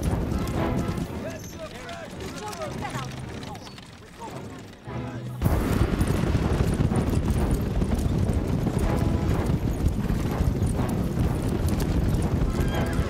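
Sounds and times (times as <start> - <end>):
horses galloping on dirt: 0.0 - 13.0.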